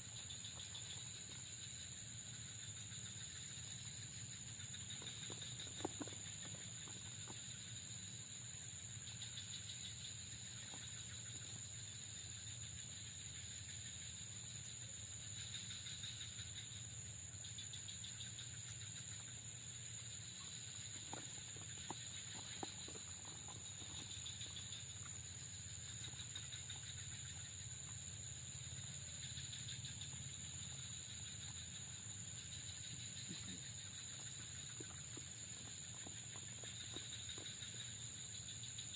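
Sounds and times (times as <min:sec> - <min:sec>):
insect buzzing trills: 0:00.0 - 0:38.9
insect drone: 0:00.0 - 0:38.9.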